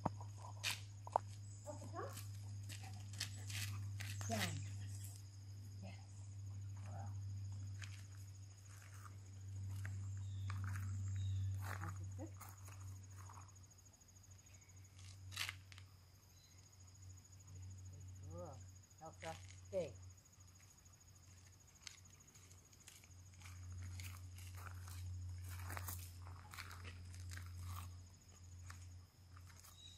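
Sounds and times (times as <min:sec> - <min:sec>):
insects trilling: 0:00.0 - 0:29.9.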